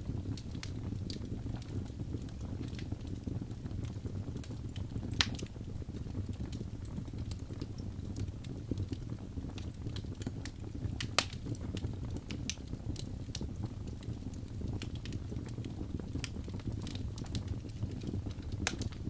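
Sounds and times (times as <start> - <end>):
burning logs crackling and popping: 0.0 - 19.0
fire flames rumbling: 0.0 - 19.0.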